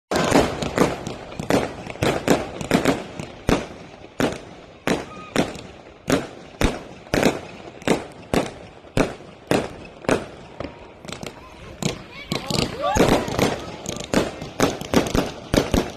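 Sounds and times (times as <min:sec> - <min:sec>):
fireworks bangs with echo: 0:00.1 - 0:15.9.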